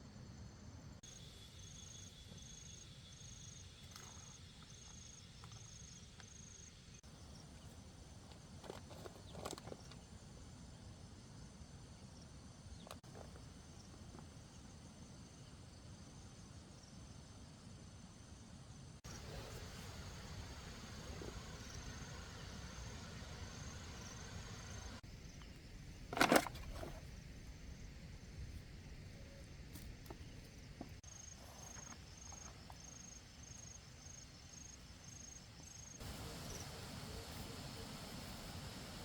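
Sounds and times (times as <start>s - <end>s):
outdoor background hiss: 0.0s - 39.0s
insects trilling: 0.2s - 18.4s, 19.0s - 39.0s.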